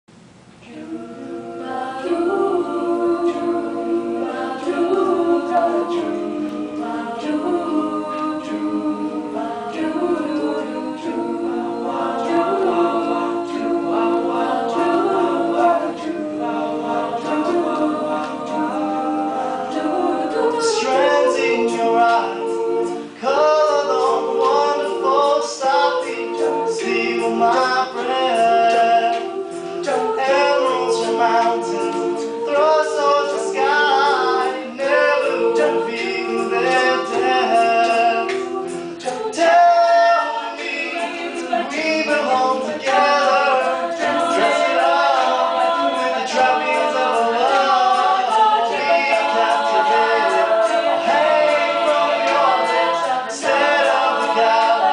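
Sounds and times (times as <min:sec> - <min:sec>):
sung backing harmonies: 0:00.1 - 0:54.9.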